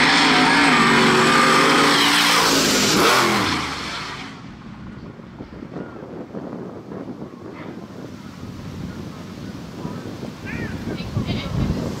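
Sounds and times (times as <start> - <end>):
truck engines at full throttle: 0.0 - 10.4.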